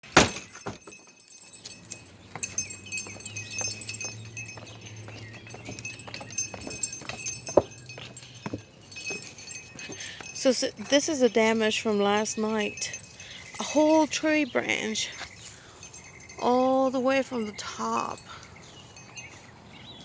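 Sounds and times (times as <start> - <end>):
light metallic jingling: 0.0 - 20.0.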